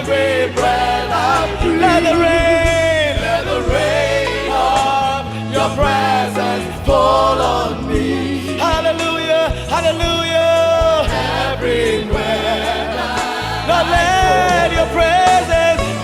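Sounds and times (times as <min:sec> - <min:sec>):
voices singing long notes: 0:00.0 - 0:09.8, 0:10.5 - 0:16.0
band with bass and drums: 0:00.0 - 0:16.0.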